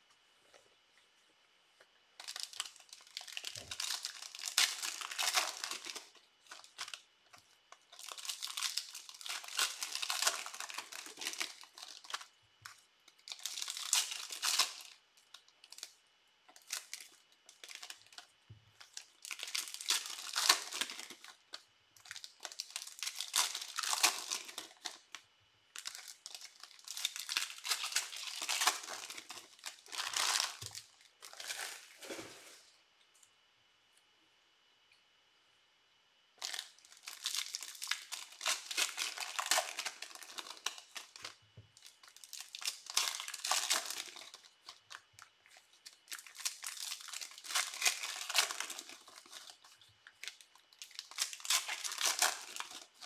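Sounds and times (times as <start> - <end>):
card wrappers tearing and crinkling: 2.2 - 7.1, 7.8 - 16.0, 16.6 - 25.2, 25.8 - 32.7, 36.4 - 53.0.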